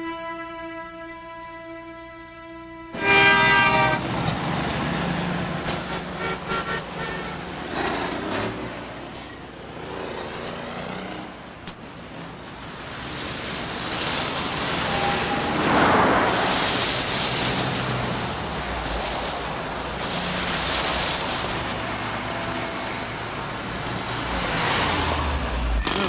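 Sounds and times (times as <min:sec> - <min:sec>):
cars driving past: 0:02.9 - 0:26.0.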